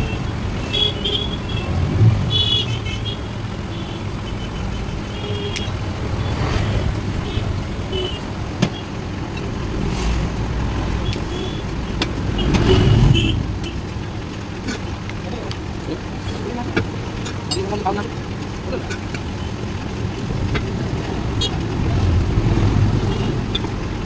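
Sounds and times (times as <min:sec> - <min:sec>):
motor vehicle rumble: 0:00.0 - 0:24.0.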